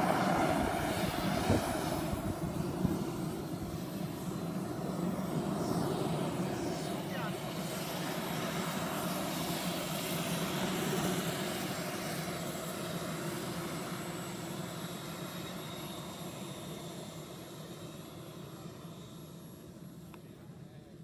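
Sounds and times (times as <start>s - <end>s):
model aircraft engine in flight: 0.0s - 21.0s.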